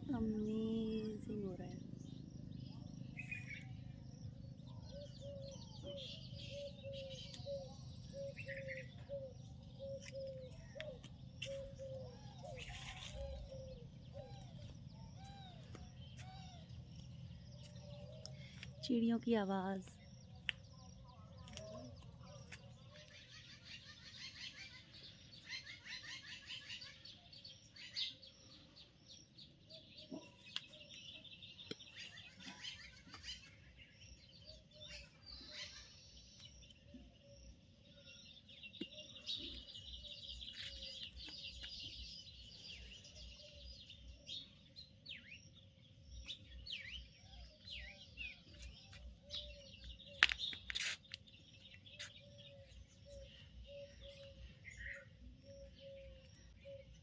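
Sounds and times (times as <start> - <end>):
birds chirping: 0.0 - 57.0
bird trill: 0.1 - 19.4, 21.0 - 28.8, 29.7 - 57.0.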